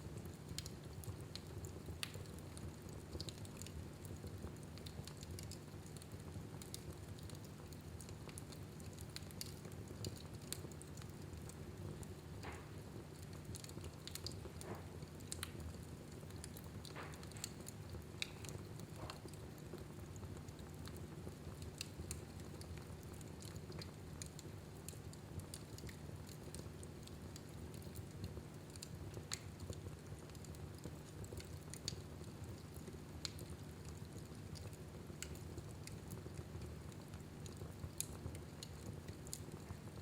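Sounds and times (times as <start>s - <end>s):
fire low rumble: 0.0s - 40.0s
wood fire crackling: 0.0s - 40.0s.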